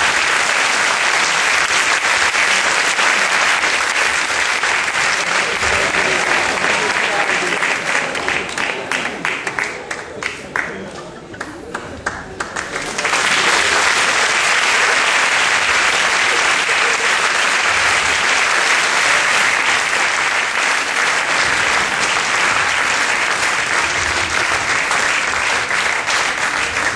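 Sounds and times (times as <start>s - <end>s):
audience applauding: 0.0s - 26.9s.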